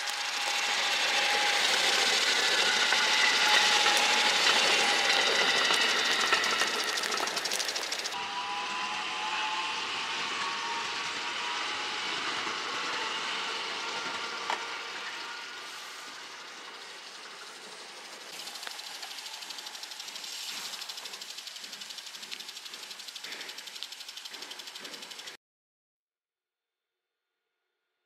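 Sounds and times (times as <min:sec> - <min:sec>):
fluttering hiss: 0:00.0 - 0:08.2, 0:09.4 - 0:25.4
electric train whine: 0:00.0 - 0:25.4
train wheels rumbling: 0:00.0 - 0:25.4.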